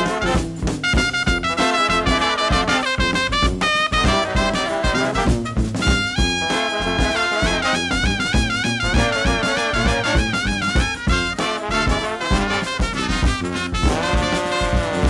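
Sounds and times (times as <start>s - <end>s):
brass-led jazz music: 0.0s - 15.0s.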